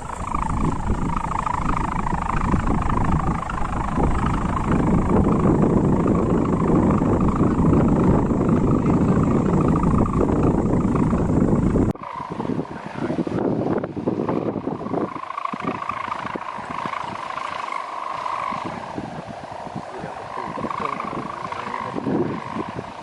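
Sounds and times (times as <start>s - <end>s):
kite hummer droning: 0.0s - 23.0s.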